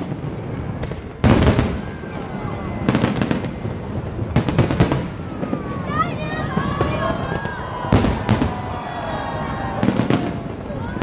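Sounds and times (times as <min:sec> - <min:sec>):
fireworks bangs: 0:00.0 - 0:11.0
rapid fireworks cracks: 0:00.0 - 0:11.0.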